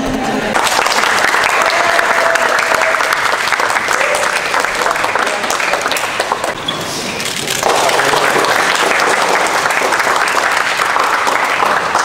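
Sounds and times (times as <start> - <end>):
crowd applauding: 0.5 - 6.6, 7.2 - 12.0.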